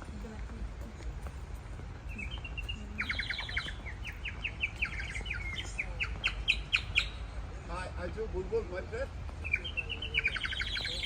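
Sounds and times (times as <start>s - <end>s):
songbird chirping: 0.0s - 8.2s, 9.2s - 11.0s.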